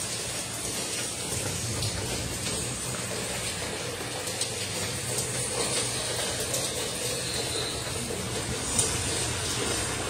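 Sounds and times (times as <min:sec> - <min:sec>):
steady rain falling: 0:00.0 - 0:10.0
water dripping off roof edge: 0:00.0 - 0:10.0.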